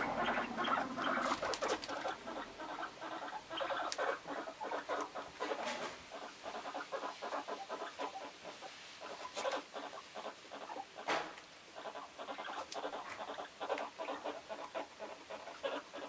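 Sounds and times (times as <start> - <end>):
guinea pigs stuttering calls: 0.0 - 16.0.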